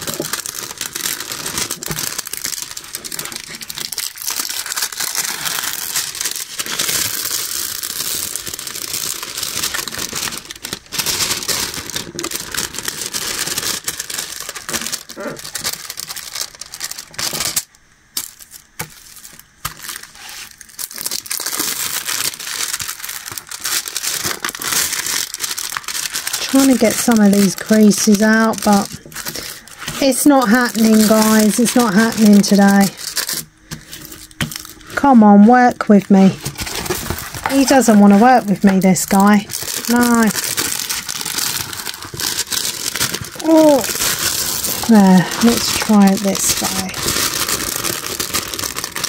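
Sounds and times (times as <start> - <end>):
plastic film crinkling: 0.0 - 49.0.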